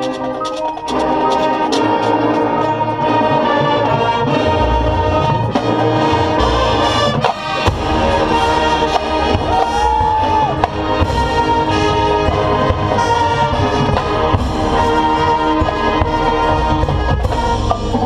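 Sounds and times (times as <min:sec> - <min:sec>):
brass ensemble playing chords: 0:00.0 - 0:18.0.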